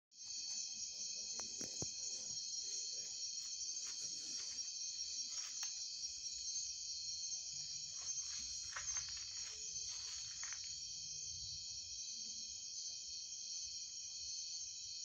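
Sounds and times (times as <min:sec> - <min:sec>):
crickets trilling: 0:00.2 - 0:15.0.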